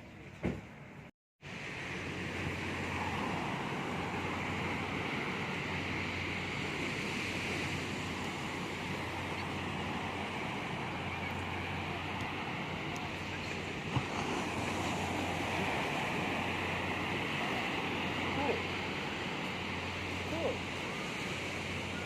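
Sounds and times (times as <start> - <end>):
sea surf washing: 1.4 - 22.0.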